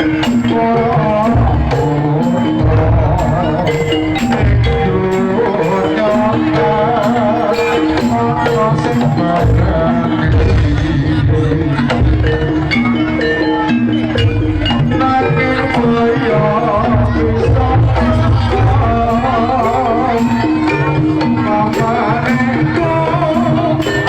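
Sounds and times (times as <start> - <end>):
wavering melody line: 0.0 - 24.0.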